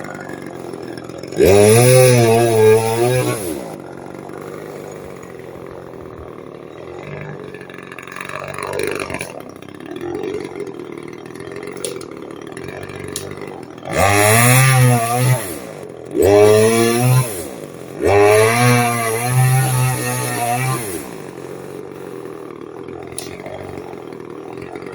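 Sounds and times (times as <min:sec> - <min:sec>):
chainsaw idling and revving: 0:00.0 - 0:24.9.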